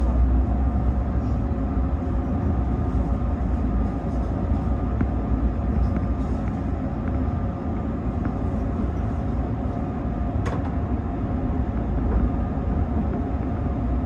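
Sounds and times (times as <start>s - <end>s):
faint hum: 0.0s - 14.0s
train wheels rumbling on rails: 0.0s - 14.0s.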